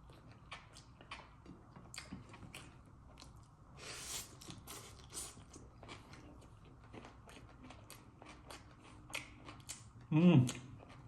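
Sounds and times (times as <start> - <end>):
person chewing and smacking: 0.0 - 11.0.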